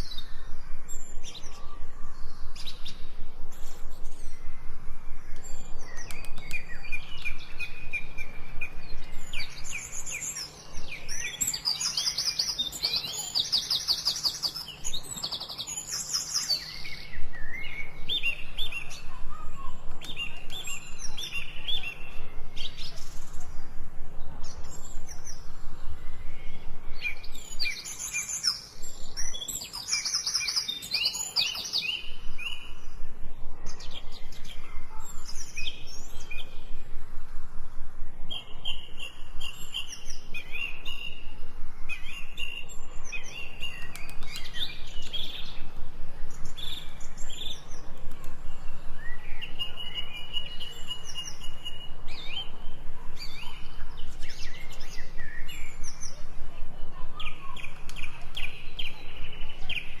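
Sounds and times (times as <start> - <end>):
birds chirping and singing: 0.0 - 36.9, 38.2 - 60.0.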